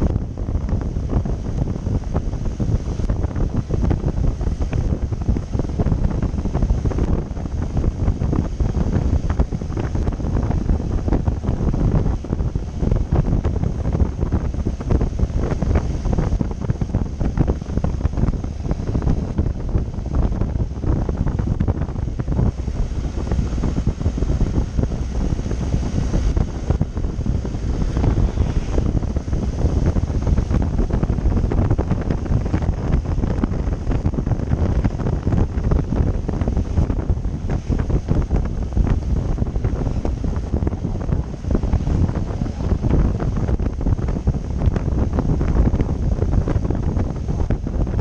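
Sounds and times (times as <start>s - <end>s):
wind buffeting on microphone: 0.0s - 48.0s.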